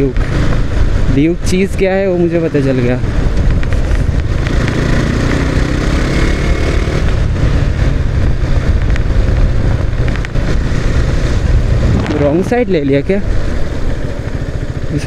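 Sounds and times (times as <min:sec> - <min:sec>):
motorcycle engine accelerating: 0:00.0 - 0:01.4, 0:02.2 - 0:15.0
wind noise on microphone: 0:00.0 - 0:15.0.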